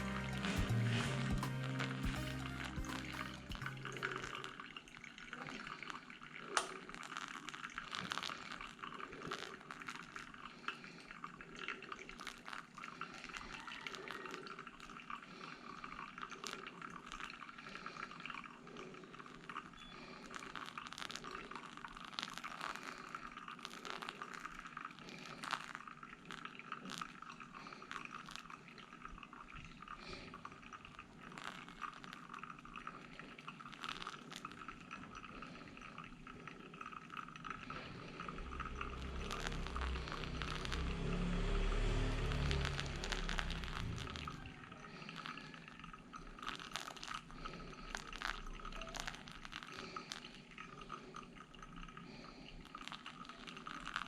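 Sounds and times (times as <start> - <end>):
liquid trickling and dripping: 0.0 - 54.0.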